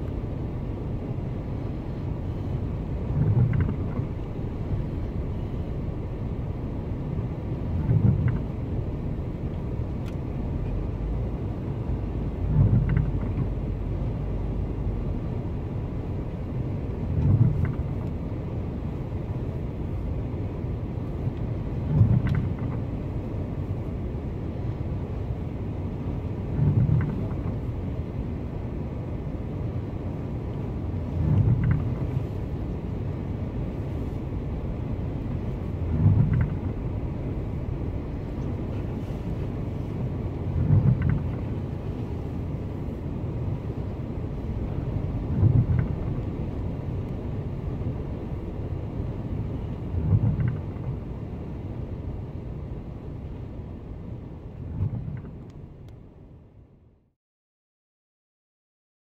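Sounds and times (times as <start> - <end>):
storm wind and surf rumble: 0.0 - 56.9.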